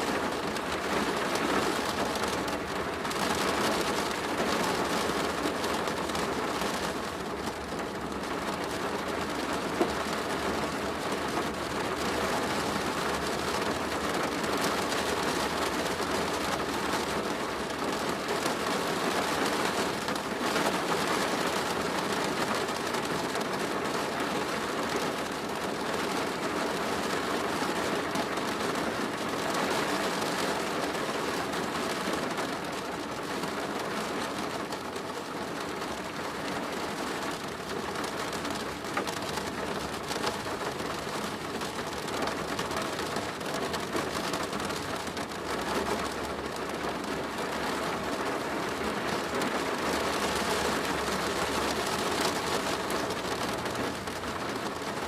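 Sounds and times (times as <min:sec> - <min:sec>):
rain pattering on a plastic roof: 0:00.0 - 0:55.0.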